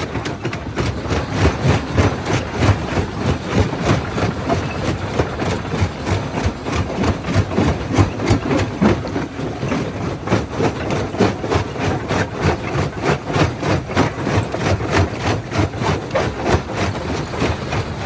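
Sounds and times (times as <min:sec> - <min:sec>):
jaw crusher knocking: 0:00.0 - 0:18.0.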